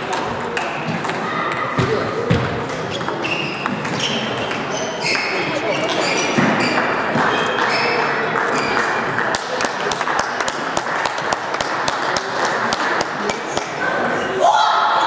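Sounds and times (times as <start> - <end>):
sports hall murmur: 0.0 - 15.0.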